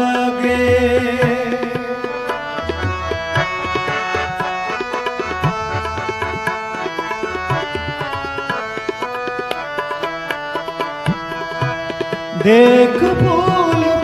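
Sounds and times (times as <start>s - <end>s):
harmonium melody: 0.0s - 14.0s.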